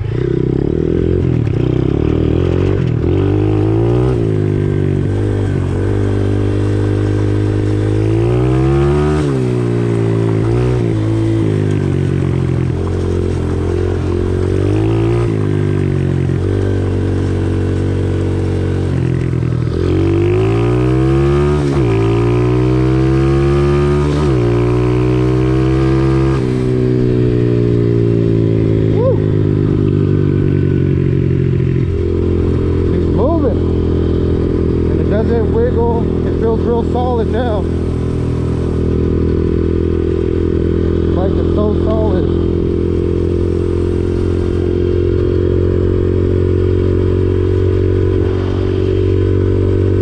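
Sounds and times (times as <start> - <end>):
small motorbike engine revving: 0.0 - 50.0.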